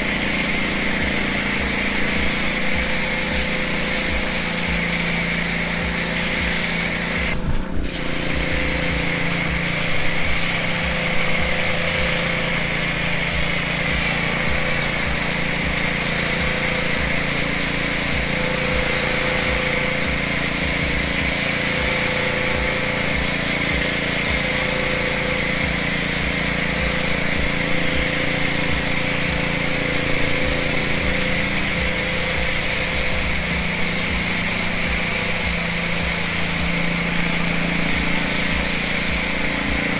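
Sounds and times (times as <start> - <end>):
pressure washer spraying: 0.0 - 39.9
pump pulsing: 0.0 - 39.9.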